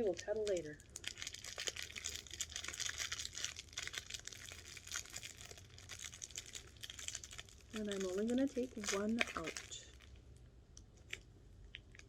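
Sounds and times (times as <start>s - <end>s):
packing material crinkling: 0.0s - 10.3s.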